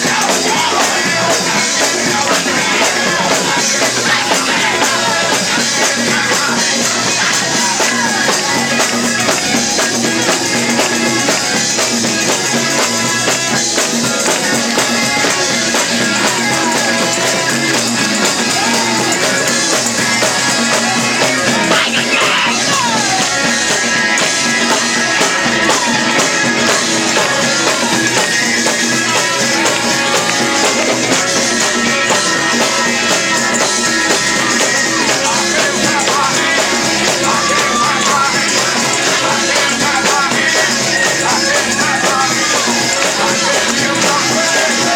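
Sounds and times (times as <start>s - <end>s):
gospel band with singing: 0.0s - 44.9s.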